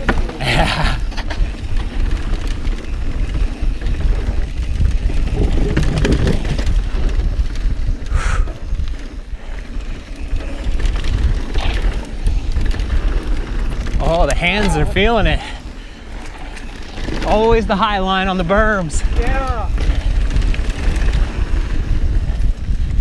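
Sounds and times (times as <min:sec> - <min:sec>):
bike rattling over bumps: 0:00.0 - 0:23.0
bike tyre noise: 0:00.0 - 0:23.0
wind rumble on microphone: 0:00.0 - 0:23.0.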